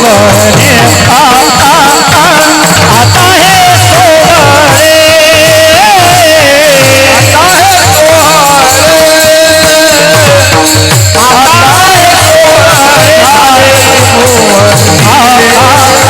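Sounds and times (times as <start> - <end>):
drum keeping steady rhythm: 0.0 - 16.0
person singing devotional song: 0.0 - 16.0.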